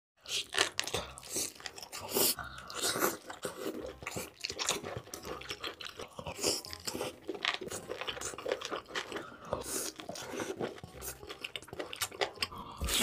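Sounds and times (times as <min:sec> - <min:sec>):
crunchy chewing: 0:00.2 - 0:13.0.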